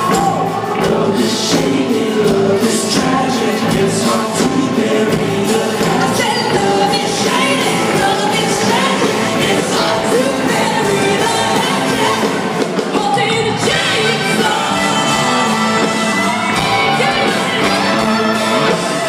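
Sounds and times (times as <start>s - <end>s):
live band playing loudly: 0.0s - 19.0s
woman singing lead vocal: 0.0s - 19.0s.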